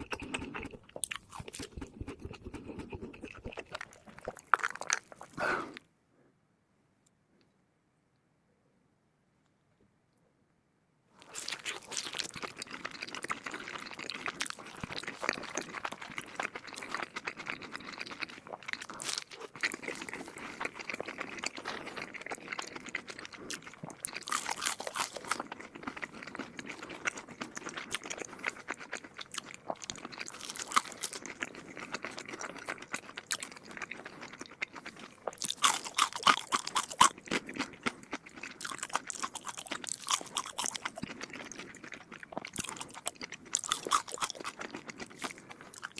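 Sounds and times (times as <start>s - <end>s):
person chewing and crunching food: 0.0s - 5.8s, 11.2s - 45.9s.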